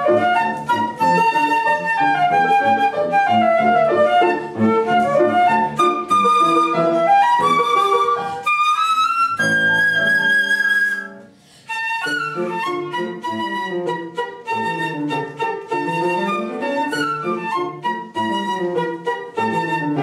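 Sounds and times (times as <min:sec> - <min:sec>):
flute playing: 0:00.0 - 0:20.0
piano accompaniment: 0:00.0 - 0:20.0.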